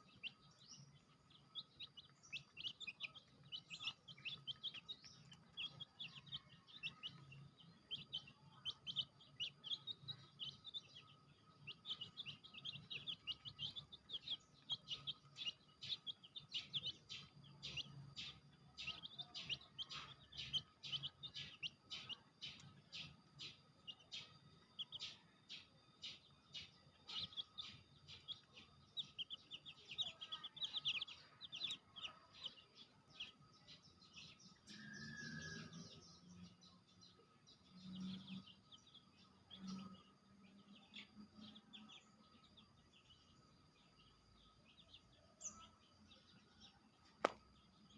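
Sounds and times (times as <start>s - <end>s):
baby chicks peeping: 0.0s - 47.9s.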